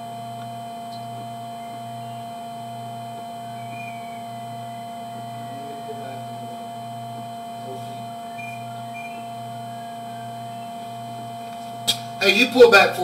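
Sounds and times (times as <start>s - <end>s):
electrical hum: 0.0s - 13.0s
low throbbing drone: 0.0s - 13.0s.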